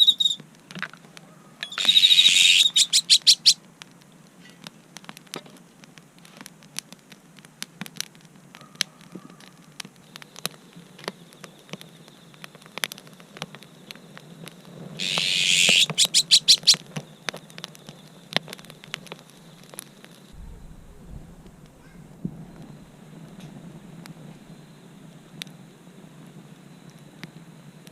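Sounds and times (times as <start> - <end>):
wood fire crackling and popping: 0.0 - 2.1, 2.7 - 27.9.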